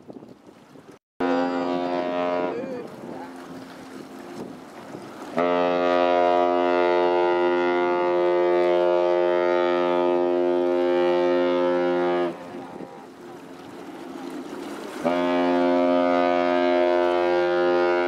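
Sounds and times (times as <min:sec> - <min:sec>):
ship's horn blast: 0:01.2 - 0:04.6, 0:05.2 - 0:13.4, 0:14.9 - 0:18.0.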